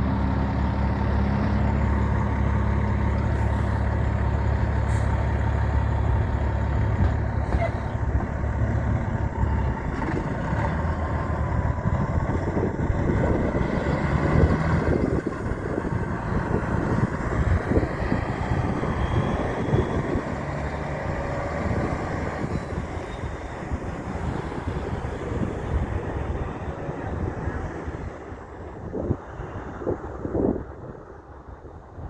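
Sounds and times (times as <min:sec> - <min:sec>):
truck engine low rumble: 0:00.0 - 0:32.0.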